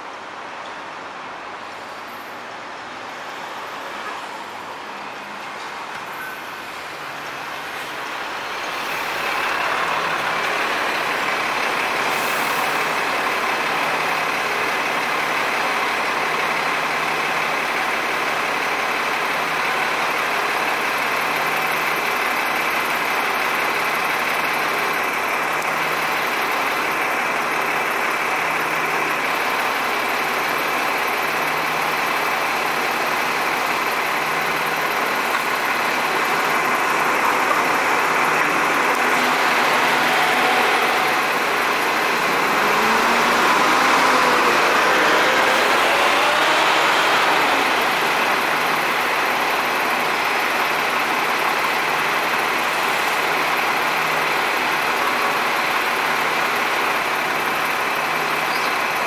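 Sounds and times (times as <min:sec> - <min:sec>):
city road traffic: 0:00.0 - 0:59.0
engine idling: 0:07.0 - 0:59.0.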